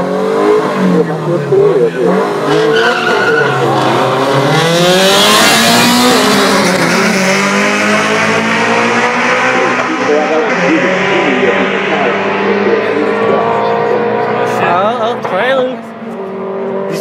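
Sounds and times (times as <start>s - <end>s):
race car engines accelerating: 0.0s - 17.0s.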